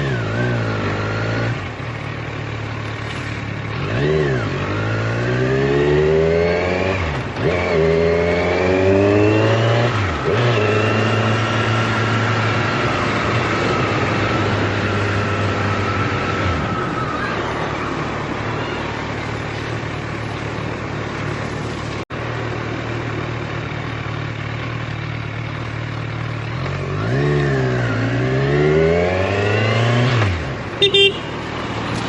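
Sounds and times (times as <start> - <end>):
vehicle engine accelerating: 0.0 - 32.0.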